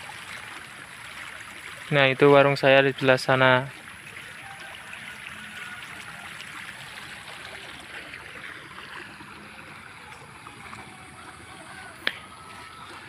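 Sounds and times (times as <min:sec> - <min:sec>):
stream flowing fast: 0:00.0 - 0:13.0.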